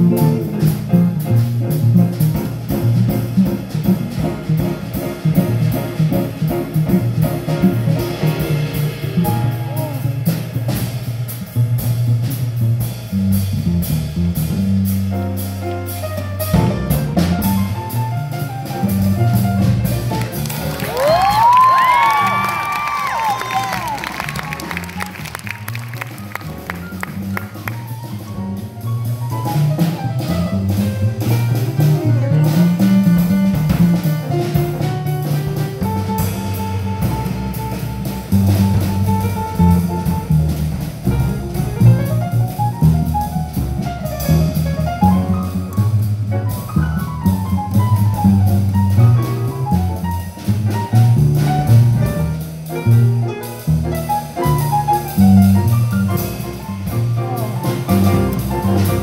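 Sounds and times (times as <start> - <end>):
drum kit cymbals: 0.0 - 24.9, 25.5 - 59.0
double bass walking line: 0.0 - 59.0
piano lead line: 0.0 - 59.0.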